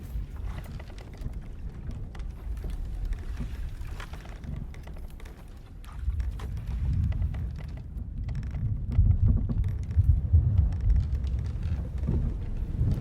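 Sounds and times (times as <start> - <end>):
ship timbers creaking: 0.0 - 13.0
wind and sea rumbling: 0.0 - 13.0.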